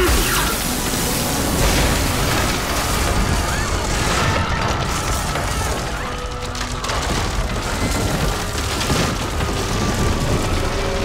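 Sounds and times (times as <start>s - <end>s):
action music: 0.0s - 11.0s
falling debris crashing: 0.0s - 11.0s
rumble of booms: 0.7s - 11.0s.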